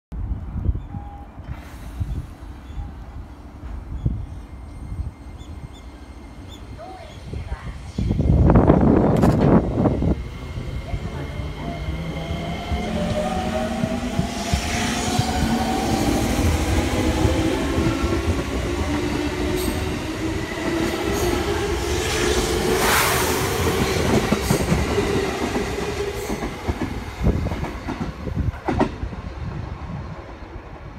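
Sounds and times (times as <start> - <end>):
wheels rumbling on rail: 0.3 - 30.9.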